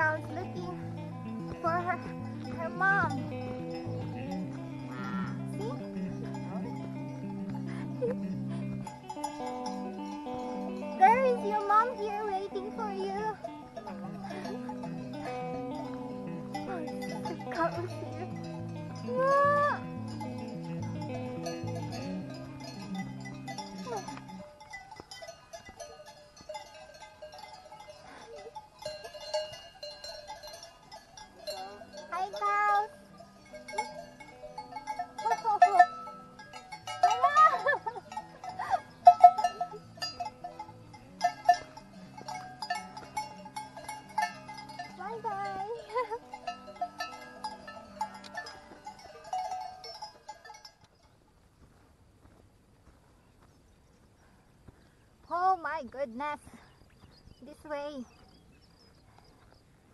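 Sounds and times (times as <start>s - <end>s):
cattle calling: 0.0s - 50.7s
cowbells ringing and clanking: 0.0s - 51.2s.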